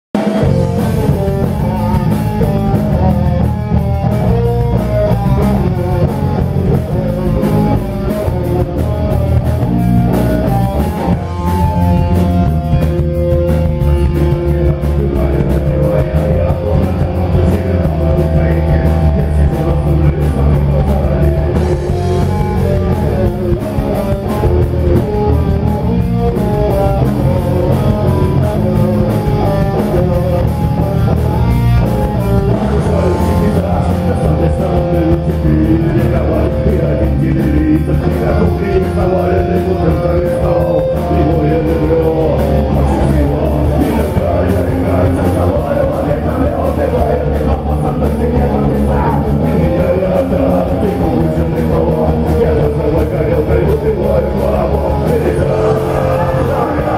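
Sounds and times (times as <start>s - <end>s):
rock band playing: 0.1s - 56.9s.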